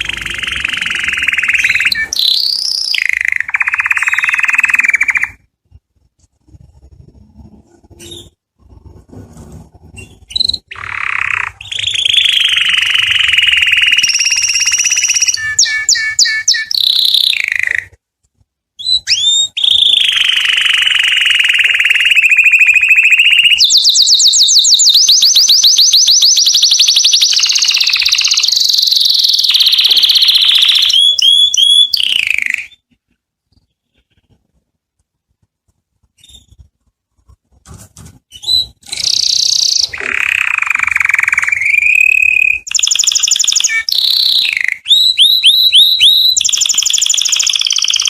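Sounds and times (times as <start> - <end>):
canary singing: 0.0 - 18.0, 18.8 - 34.6, 36.0 - 37.4, 38.2 - 48.0.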